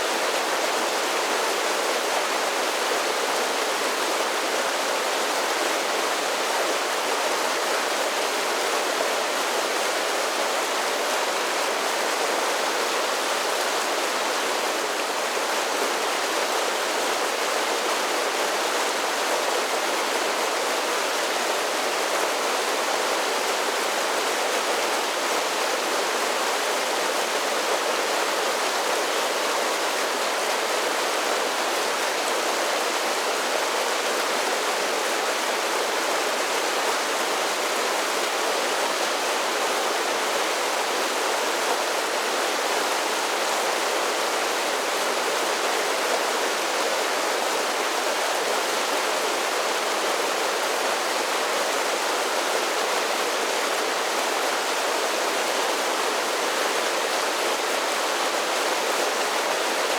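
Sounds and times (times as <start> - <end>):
creek splashing down waterfalls: 0.0 - 59.9.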